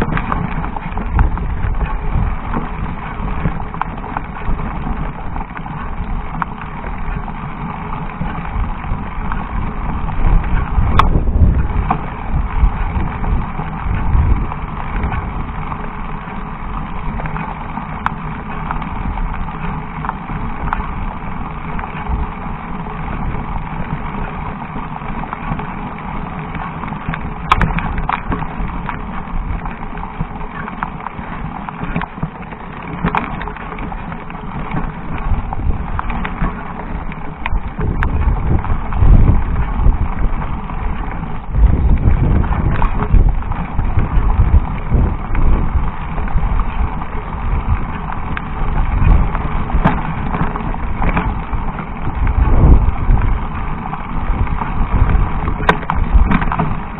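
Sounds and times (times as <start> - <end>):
bike rattling: 0.0 - 56.9
tyres crunching over stones: 0.0 - 56.9.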